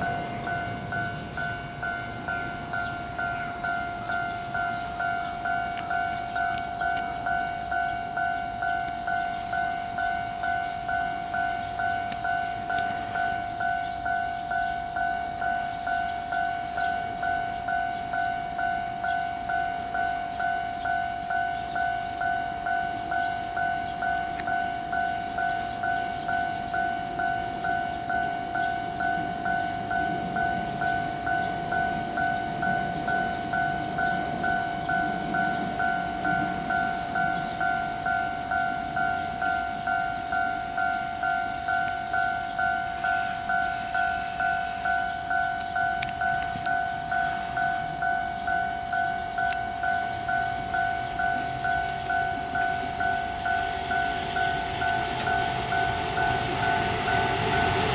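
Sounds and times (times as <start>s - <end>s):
level crossing warning bell: 0.0s - 57.9s
train rumble: 0.0s - 57.9s.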